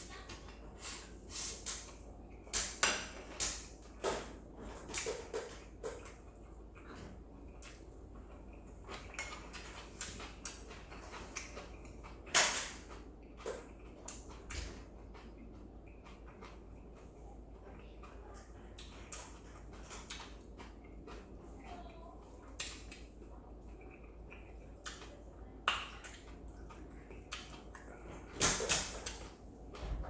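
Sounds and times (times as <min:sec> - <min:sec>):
slurping and chewing: 0:00.0 - 0:28.4.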